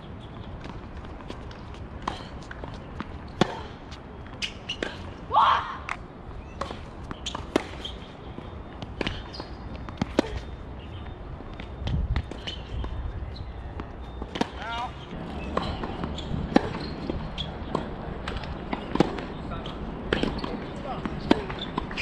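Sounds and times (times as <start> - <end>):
tennis ball hitting racket and court: 0.4 - 5.1, 5.8 - 10.5, 11.6 - 13.0, 13.7 - 22.0.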